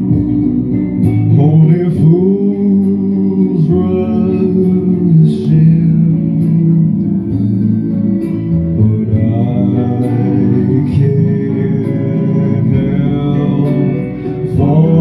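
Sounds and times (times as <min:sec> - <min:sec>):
backing music: 0:00.0 - 0:15.0
young man singing: 0:01.2 - 0:07.4, 0:08.5 - 0:15.0.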